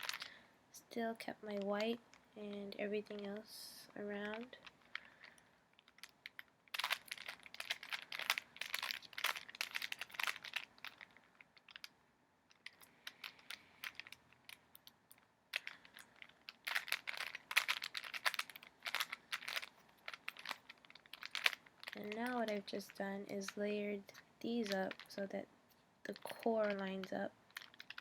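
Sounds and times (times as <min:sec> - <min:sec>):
plastic cube layers clicking: 0:01.5 - 0:25.4, 0:26.1 - 0:28.0.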